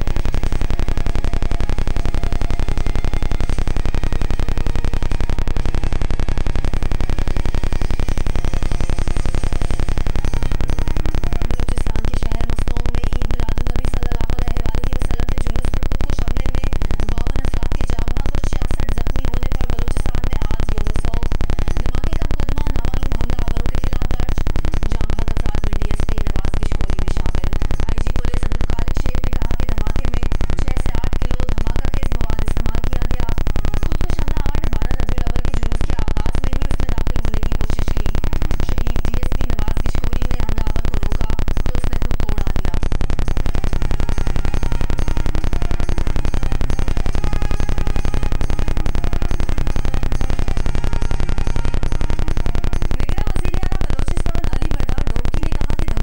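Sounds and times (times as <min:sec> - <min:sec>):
loud buzzing static: 0:00.0 - 0:56.0.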